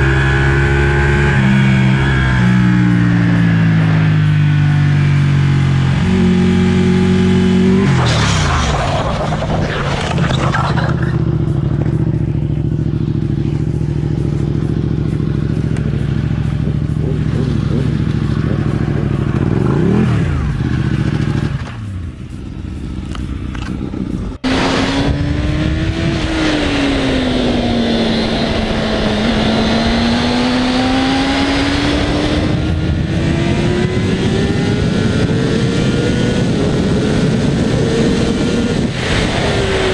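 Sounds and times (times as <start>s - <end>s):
motorcycle engine running: 0.0s - 8.2s, 9.2s - 39.9s.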